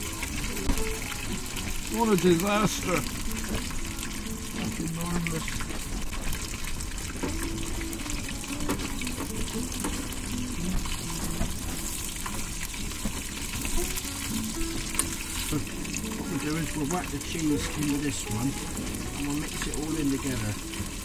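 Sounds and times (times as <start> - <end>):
background music: 0.0 - 21.0
food sizzling in hot fat: 0.0 - 21.0.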